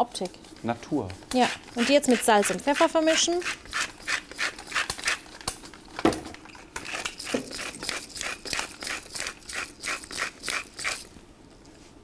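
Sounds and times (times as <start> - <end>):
pepper mill grinding: 0.2 - 5.8, 6.8 - 11.2.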